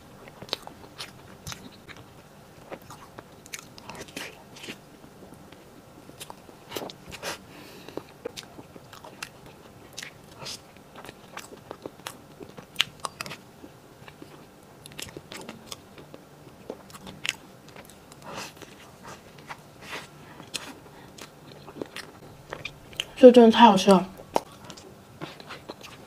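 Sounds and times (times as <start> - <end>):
wet chewing and lip smacks: 0.2 - 4.8, 6.2 - 23.2, 24.2 - 26.0.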